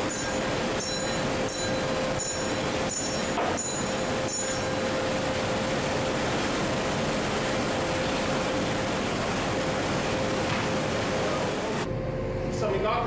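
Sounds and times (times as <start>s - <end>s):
machine running with rushing hum: 0.0s - 13.0s.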